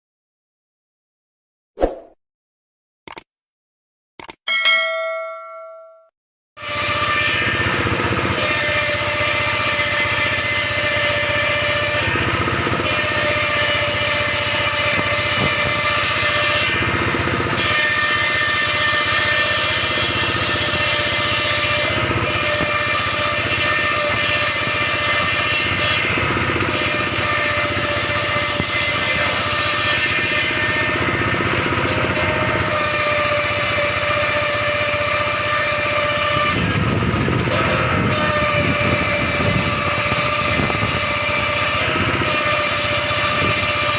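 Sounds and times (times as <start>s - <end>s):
table saw cutting wood: 6.6s - 43.9s.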